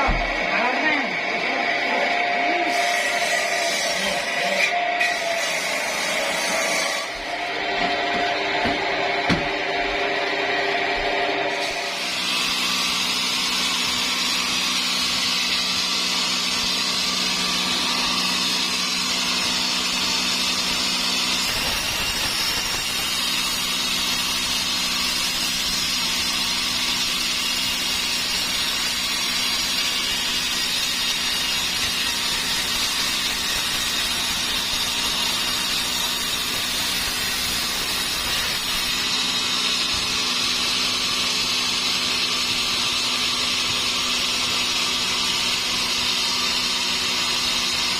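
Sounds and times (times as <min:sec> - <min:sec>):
sawmill saw cutting log: 0:00.0 - 0:47.9.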